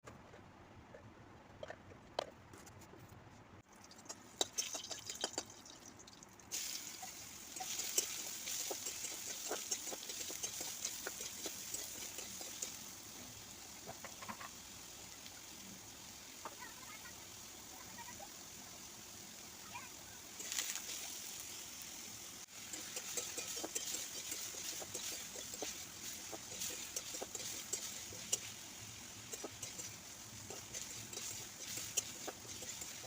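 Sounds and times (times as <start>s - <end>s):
frying in hot oil: 3.6s - 33.0s.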